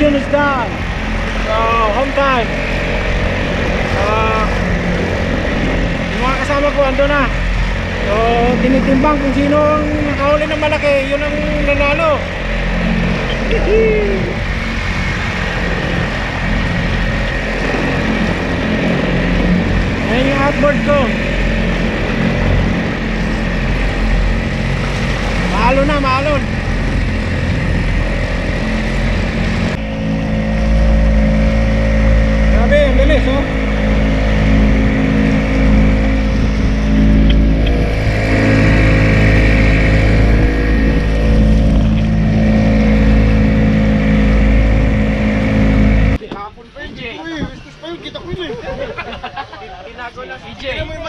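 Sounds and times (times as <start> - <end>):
small outboard motor running: 0.0 - 46.2
water rushing from wake: 0.0 - 46.2.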